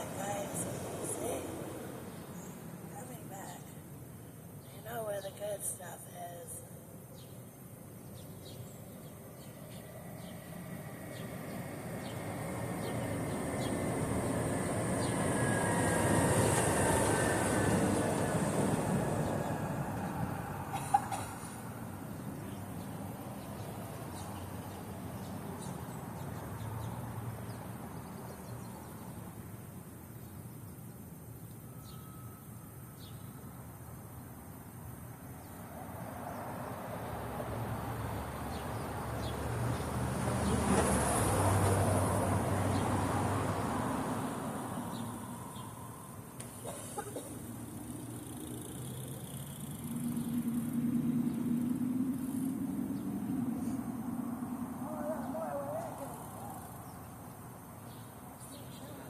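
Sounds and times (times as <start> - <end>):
vehicle approaching: 0.0 - 5.7, 6.7 - 59.0.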